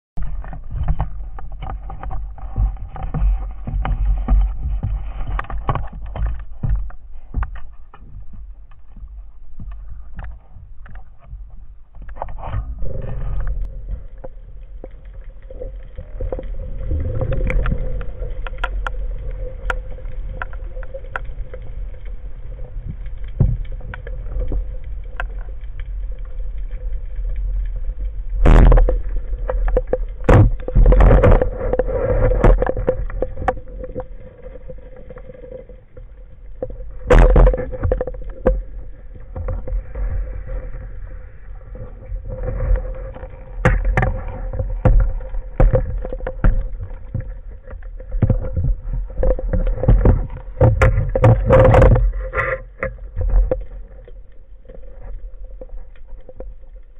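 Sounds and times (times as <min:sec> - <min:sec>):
underwater low rumble: 0:00.2 - 0:56.9.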